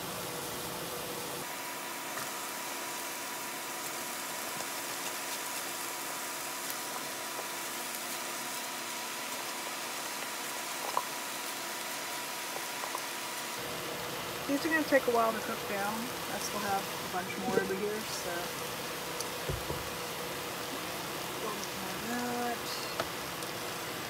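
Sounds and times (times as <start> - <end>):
onions sizzling in a frying pan: 0.0 - 24.0.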